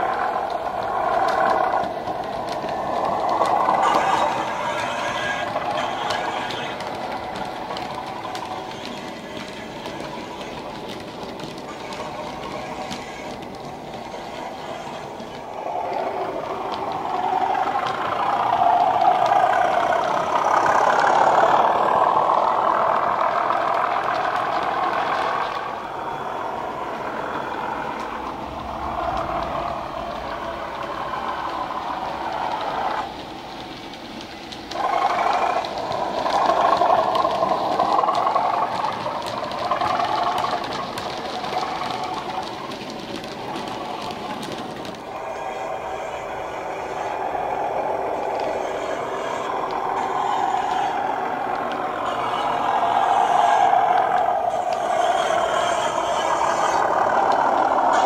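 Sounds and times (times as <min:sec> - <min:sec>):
model diesel engine sound: 0:00.0 - 0:58.0
wheels clicking on track: 0:00.0 - 0:58.0.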